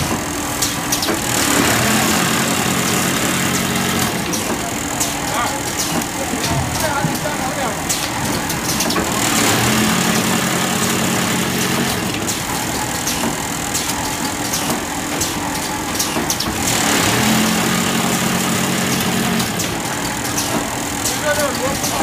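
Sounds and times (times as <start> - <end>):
machine noise with clicks: 0.0 - 22.0.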